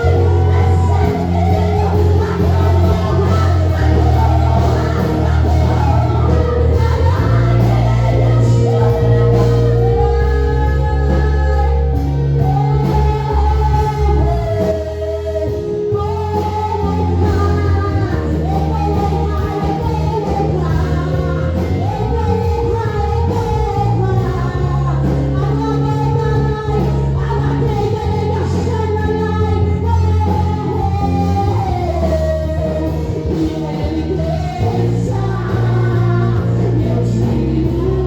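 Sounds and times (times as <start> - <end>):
band playing: 0.0 - 38.0
bass line: 0.0 - 38.0
person singing: 0.0 - 38.0.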